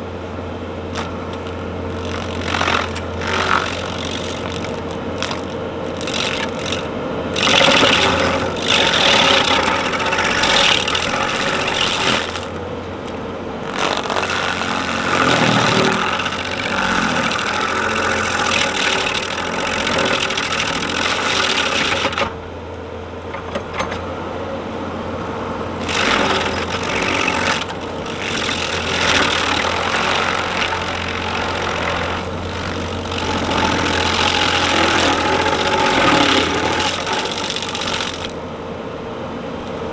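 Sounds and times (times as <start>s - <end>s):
engine drone: 0.0s - 39.9s
cutting noise: 0.9s - 22.4s, 25.8s - 38.4s.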